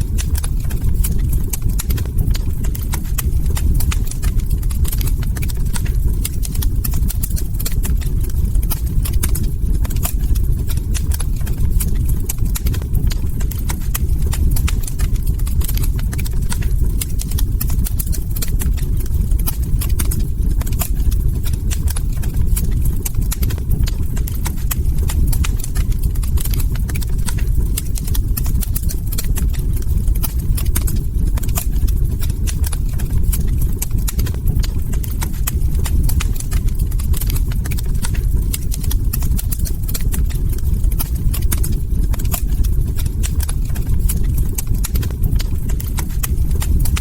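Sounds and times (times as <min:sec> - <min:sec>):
log fire crackling: 0:00.0 - 0:47.0
low rumble: 0:00.0 - 0:47.0.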